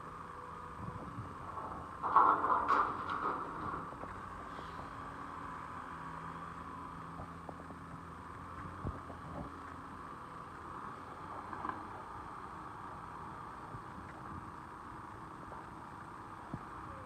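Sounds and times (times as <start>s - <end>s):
distant machinery hum: 0.0s - 17.0s.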